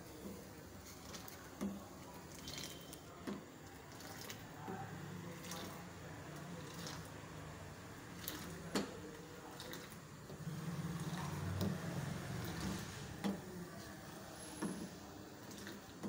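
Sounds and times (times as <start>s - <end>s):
liquid simmering and ladled: 0.0s - 16.0s.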